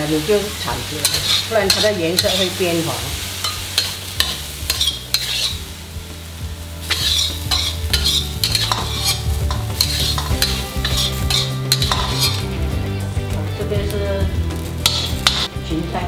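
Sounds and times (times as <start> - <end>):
light sizzle: 0.0 - 16.0
metal spatula scraping wok: 0.5 - 5.8, 6.8 - 12.7, 13.7 - 15.5.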